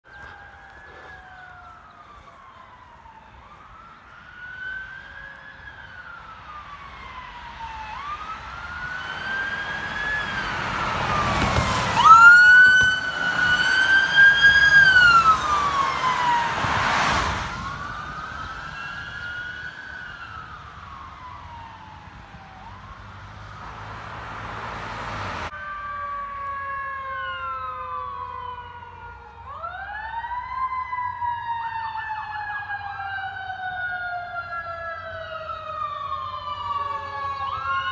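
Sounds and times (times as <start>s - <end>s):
multi-tone siren: 0.0s - 37.9s
vehicle road noise: 0.0s - 37.9s
siren wailing: 0.1s - 37.9s.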